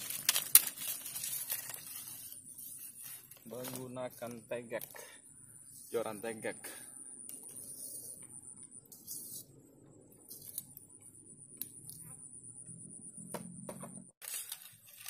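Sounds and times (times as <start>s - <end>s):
thin high-pitched whine: 0.0s - 14.6s.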